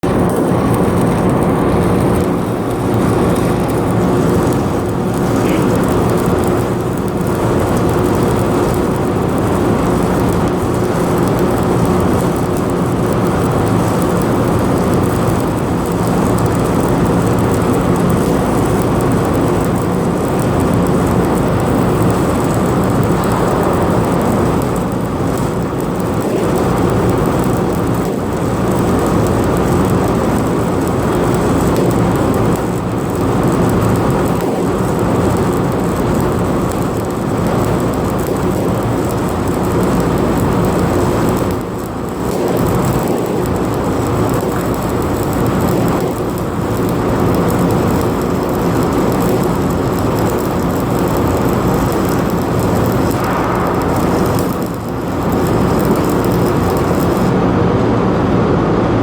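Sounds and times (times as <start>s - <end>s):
arc welding crackle: 0.0s - 58.6s
low machine hum: 0.0s - 58.9s.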